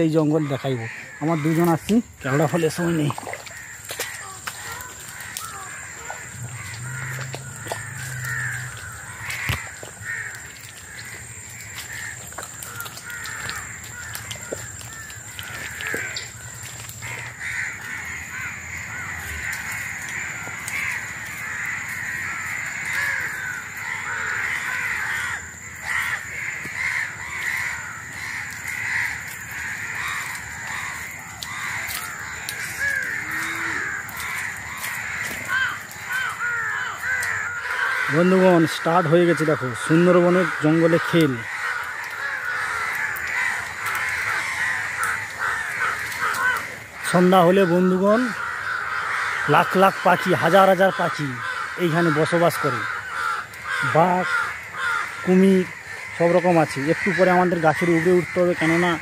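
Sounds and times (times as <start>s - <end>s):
birds calling and chattering: 0.0s - 59.0s
crow-like caws: 0.0s - 59.0s
footsteps through twigs and mud: 0.5s - 59.0s.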